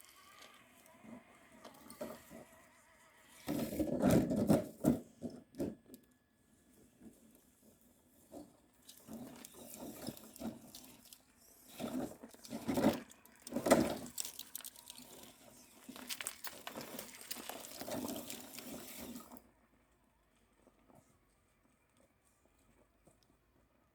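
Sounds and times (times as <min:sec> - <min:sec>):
rc truck crawling over rough ground: 0:00.0 - 0:21.2.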